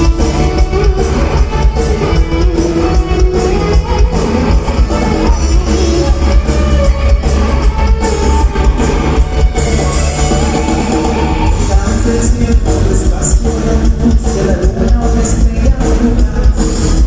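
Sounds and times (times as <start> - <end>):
live rock band playing: 0.0 - 17.0
person singing: 2.5 - 17.0.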